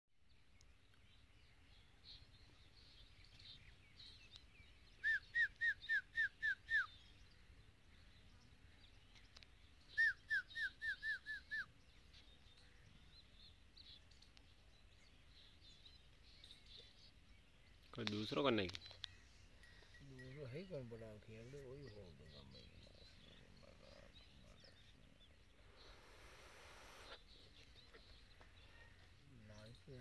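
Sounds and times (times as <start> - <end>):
faint high chirping: 1.8 - 26.2.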